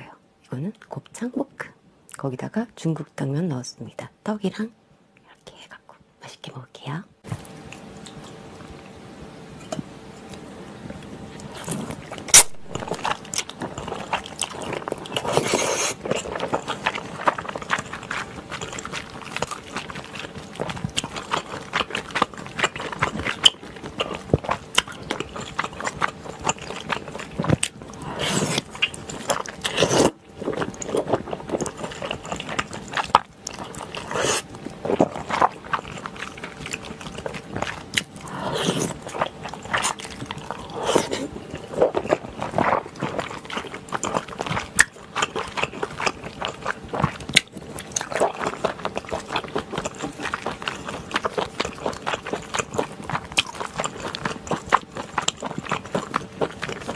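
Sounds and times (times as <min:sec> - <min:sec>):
noodles slurped and chewed: 0:11.3 - 0:56.9.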